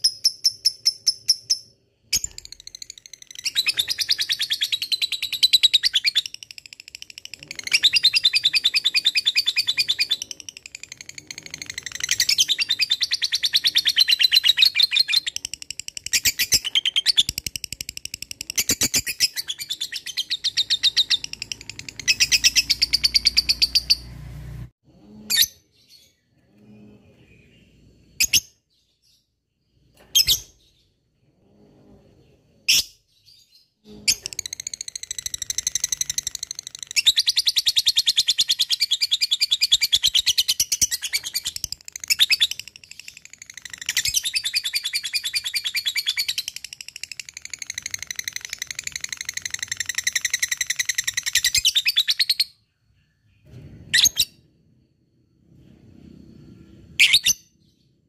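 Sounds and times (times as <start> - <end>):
sharp bird chirps: 0.0 - 24.2, 32.2 - 54.8.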